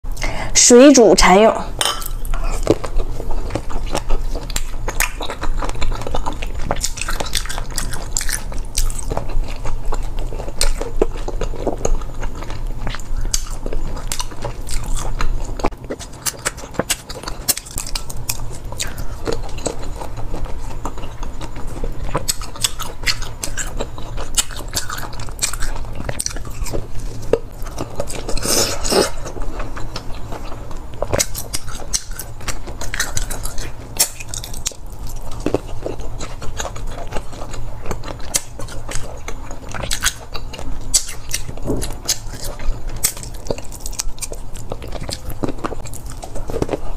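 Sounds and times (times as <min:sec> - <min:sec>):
biting and chewing crisp food: 0:01.4 - 0:46.9.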